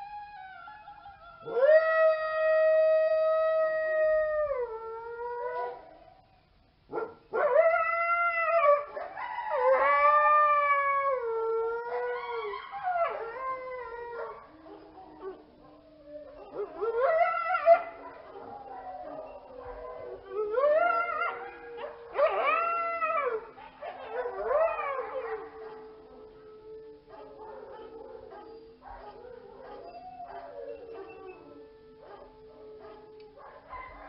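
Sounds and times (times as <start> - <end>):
coyotes howling: 0.0 - 34.0.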